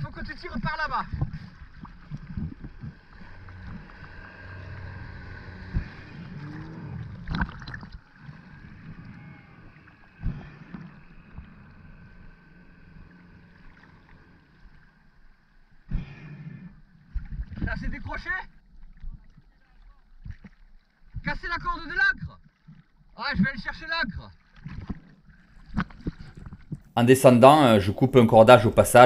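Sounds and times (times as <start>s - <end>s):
outboard motor running: 0.0s - 27.0s
water splashing: 0.0s - 29.0s.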